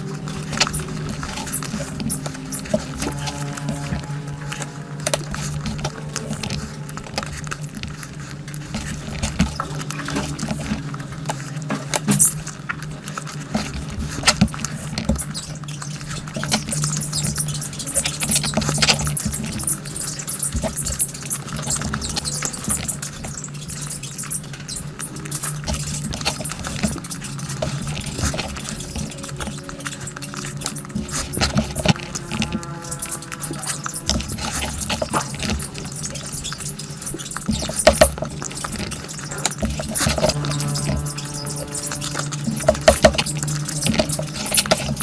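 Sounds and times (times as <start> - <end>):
steady low hum: 0.0 - 45.0
wet chewing and lip-smacking: 0.0 - 45.0.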